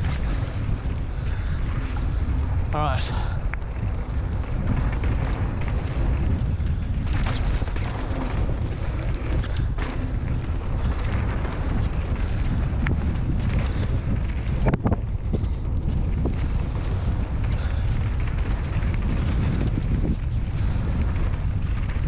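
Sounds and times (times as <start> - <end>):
bike knocks and rattles: 0.0 - 22.0
wind rumbling on microphone: 0.0 - 22.0.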